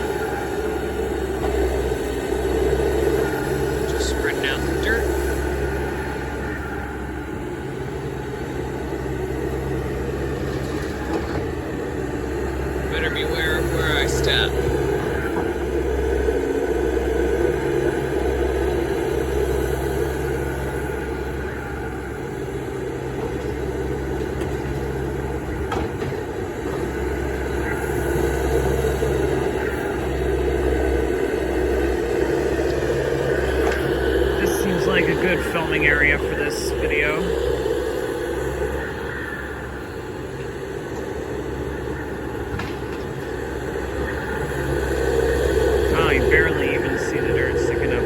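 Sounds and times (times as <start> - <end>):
heavy diesel engines droning: 0.0 - 48.0.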